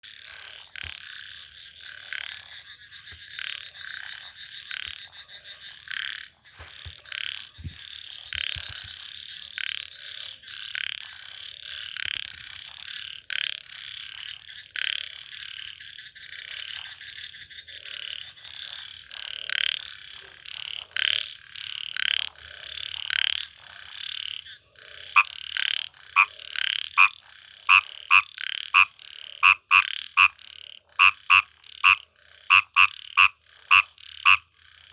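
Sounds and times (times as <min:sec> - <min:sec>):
chorus of frogs croaking: 0:00.0 - 0:34.9
loud frog calling: 0:00.0 - 0:34.9.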